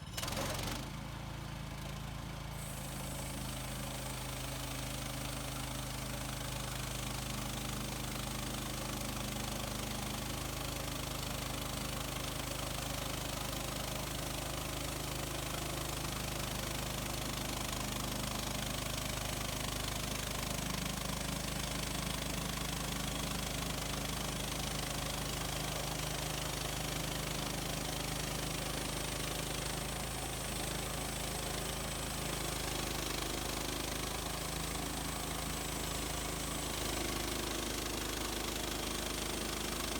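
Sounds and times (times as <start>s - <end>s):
sawmill engine running: 0.1s - 39.9s.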